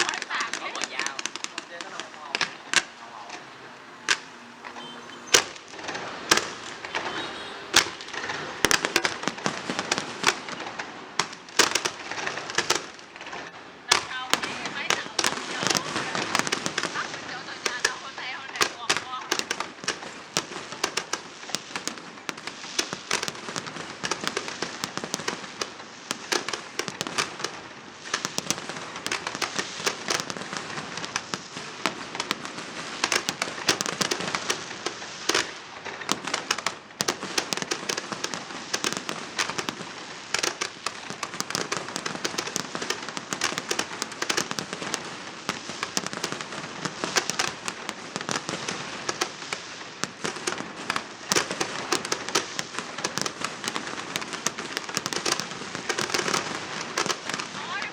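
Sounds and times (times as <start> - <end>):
fireworks cracking and popping: 0.0 - 57.9.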